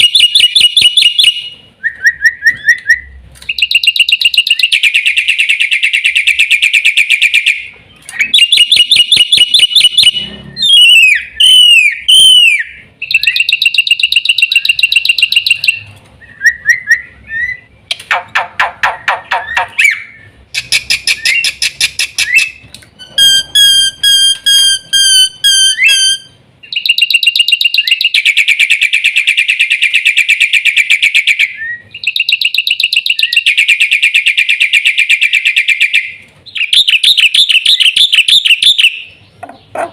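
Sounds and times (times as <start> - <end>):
bird singing trills and whistles: 0.0 - 39.8.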